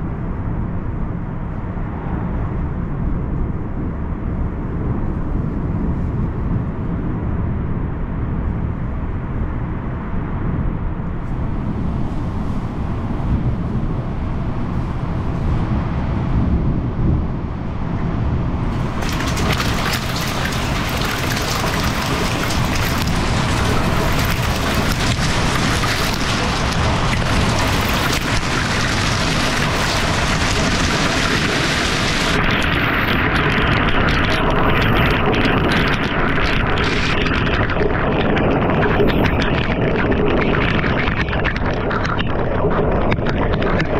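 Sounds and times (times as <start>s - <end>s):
strong storm wind: 0.0s - 43.9s.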